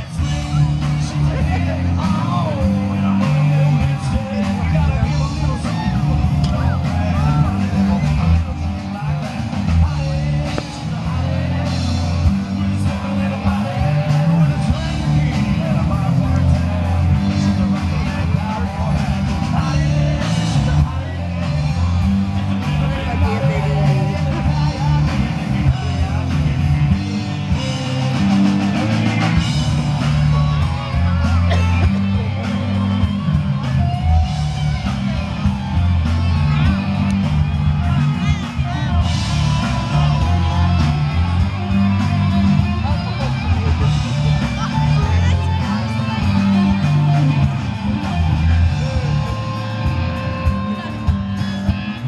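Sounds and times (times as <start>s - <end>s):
crowd voices: 0.0s - 52.0s
rock music with singer: 0.0s - 52.0s.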